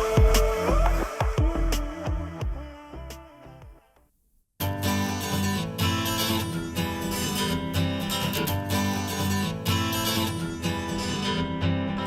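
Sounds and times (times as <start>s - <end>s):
strummed acoustic guitar with bass: 0.0s - 3.6s, 4.6s - 12.0s.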